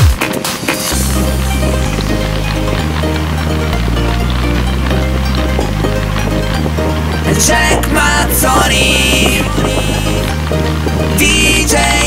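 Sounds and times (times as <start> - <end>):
instrumental beat with deep bass: 0.0 - 12.0.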